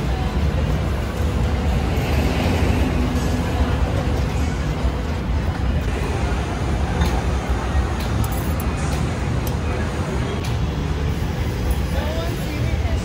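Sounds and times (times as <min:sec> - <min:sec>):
low rumble and hum of food stalls: 0:00.0 - 0:13.0.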